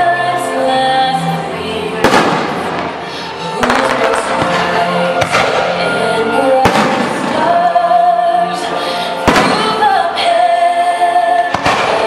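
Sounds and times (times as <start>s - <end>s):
loud music with singing: 0.0s - 12.0s.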